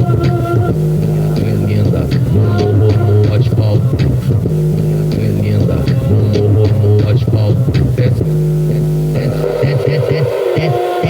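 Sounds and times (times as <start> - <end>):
bass-heavy music through subwoofers: 0.0 - 11.0.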